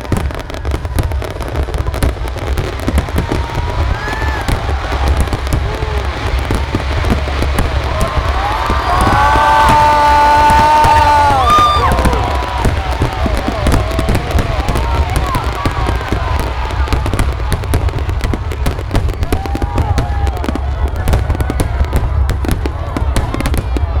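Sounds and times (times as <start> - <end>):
crowd voices: 0.0 - 24.0
fireworks crackling pops: 0.0 - 24.0.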